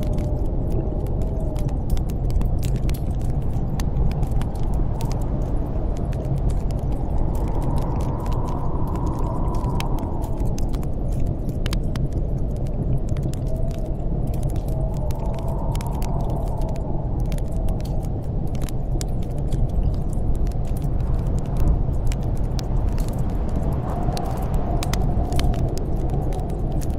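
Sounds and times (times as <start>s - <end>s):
howling wind: 0.0s - 26.9s
wood fire crackling: 0.0s - 26.9s.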